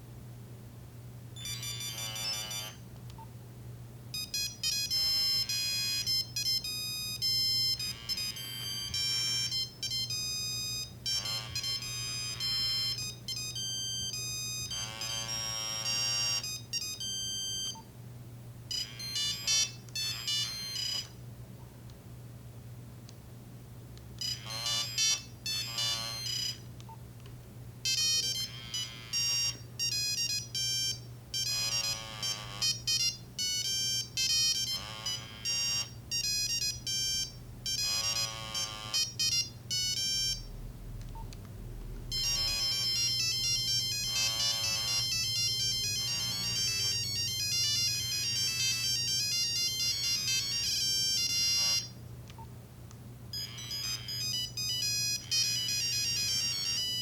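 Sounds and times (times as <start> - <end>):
mobile phone ringtone beeps: 1.4 - 2.8, 4.2 - 17.9, 18.7 - 21.1, 24.2 - 26.6, 27.9 - 40.6, 42.1 - 52.0, 53.3 - 57.0.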